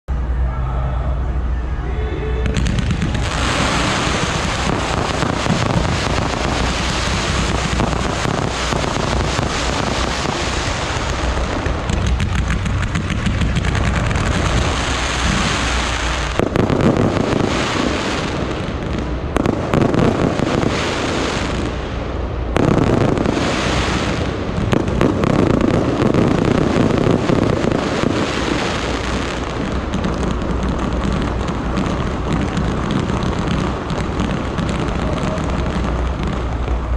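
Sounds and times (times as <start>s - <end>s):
fireworks crackling and popping: 2.4s - 36.9s.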